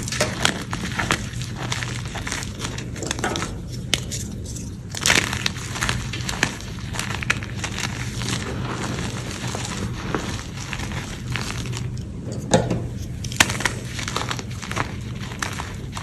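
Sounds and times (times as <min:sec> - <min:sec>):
chalk crunching by hand: 0:00.0 - 0:12.1, 0:13.0 - 0:16.0.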